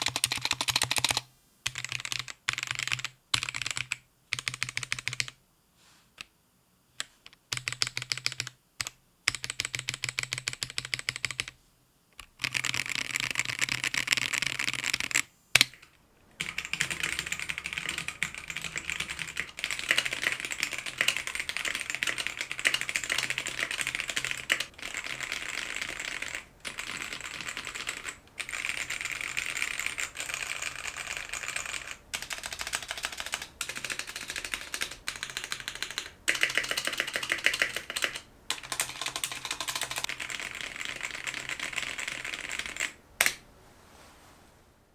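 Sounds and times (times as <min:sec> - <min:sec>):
mechanical keyboard typing: 0:00.0 - 0:05.4, 0:07.0 - 0:11.6, 0:12.2 - 0:43.4.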